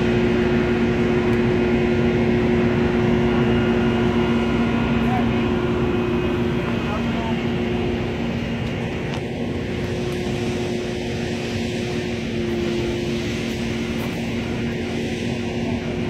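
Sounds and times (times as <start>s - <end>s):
engine humming: 0.0s - 16.0s
wildfire roaring: 0.0s - 16.0s
wind: 0.0s - 16.0s.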